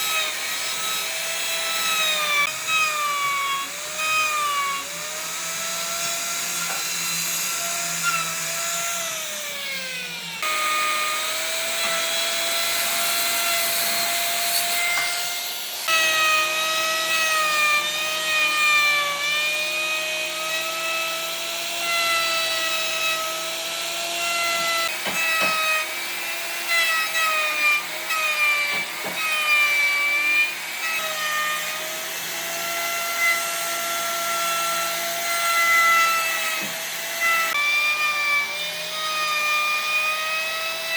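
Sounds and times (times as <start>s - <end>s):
power tool motor whining: 0.0s - 40.9s.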